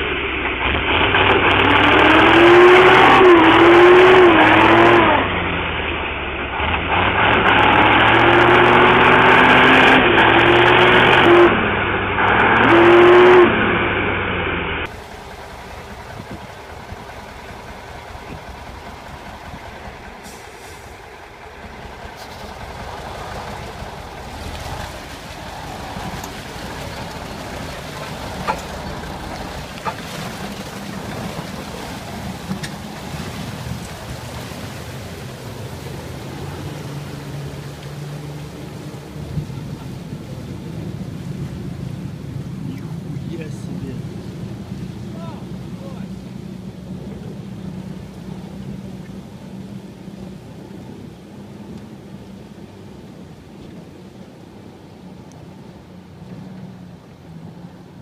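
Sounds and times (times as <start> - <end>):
truck engine revving hard: 0.0 - 51.8
rush of water and wind: 0.0 - 58.0.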